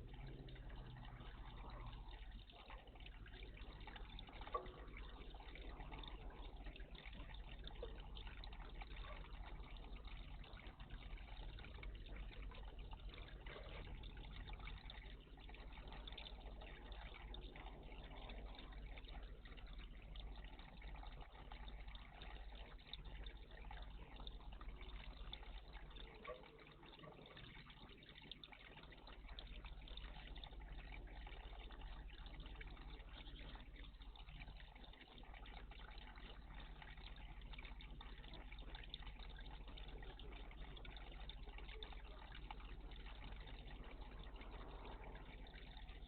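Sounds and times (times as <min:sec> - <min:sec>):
water trickling in bird bath: 0:00.0 - 0:46.0.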